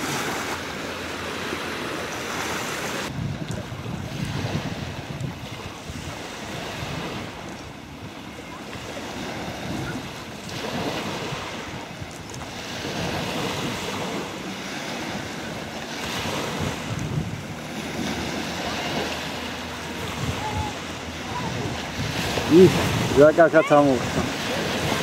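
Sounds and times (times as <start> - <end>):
small waves washing: 0.0 - 25.0
wind buffeting microphone: 2.7 - 25.0.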